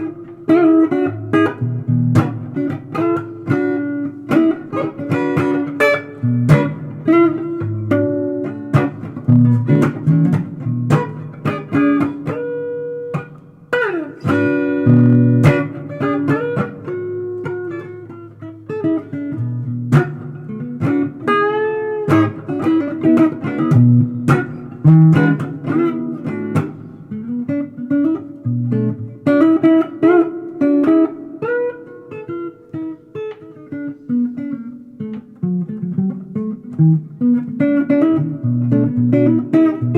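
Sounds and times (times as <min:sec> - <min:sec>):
solo blues guitar: 0:00.0 - 0:39.9.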